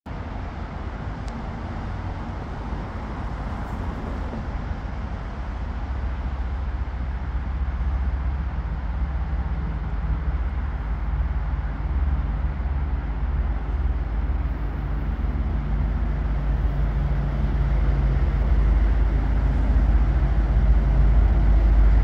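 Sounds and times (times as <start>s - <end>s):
broad train noise: 0.1s - 22.0s
locomotive engine rumble: 0.1s - 22.0s.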